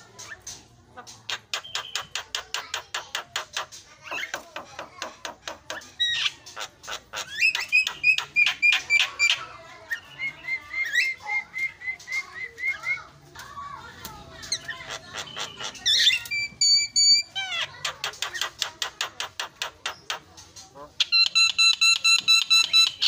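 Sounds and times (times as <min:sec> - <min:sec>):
myna bird singing: 0:00.0 - 0:13.2, 0:14.1 - 0:23.0.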